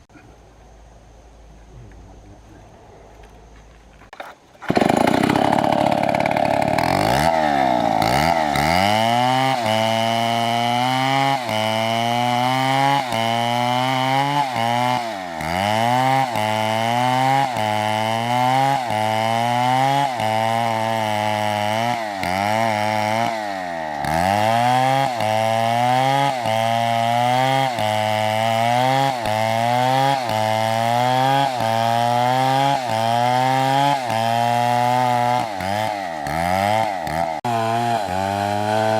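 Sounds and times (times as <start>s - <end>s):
chainsaw cutting wood: 4.1s - 38.9s.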